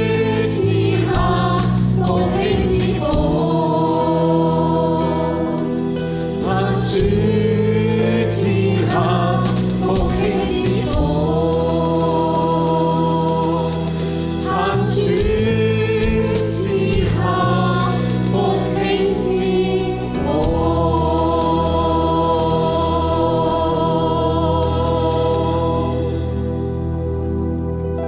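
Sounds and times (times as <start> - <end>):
group of voices singing: 0.0 - 26.6
keyboard accompaniment: 0.0 - 28.0.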